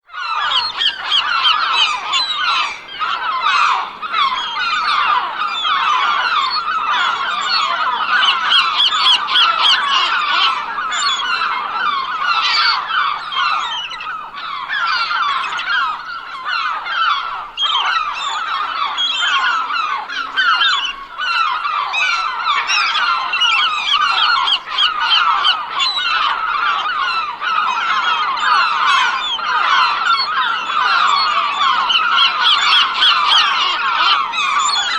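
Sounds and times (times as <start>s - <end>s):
flock of gulls calling: 0.0s - 34.9s.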